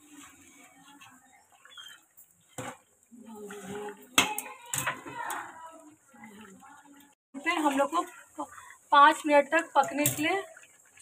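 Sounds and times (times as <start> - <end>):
metal spatula stirring in steel pot: 0.0 - 11.0.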